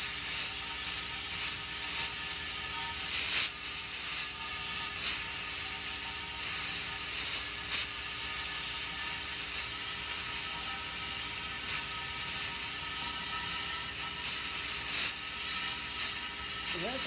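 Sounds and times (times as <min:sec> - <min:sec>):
mechanical hum and whir: 0:00.0 - 0:17.0
plasma cutter hissing: 0:00.0 - 0:17.0.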